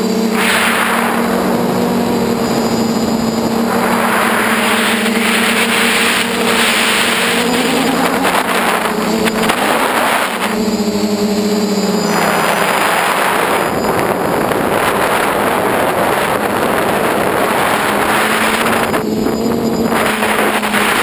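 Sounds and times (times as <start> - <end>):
model aircraft propellers buzzing: 0.0 - 21.0
wind rushing over microphone: 0.0 - 21.0.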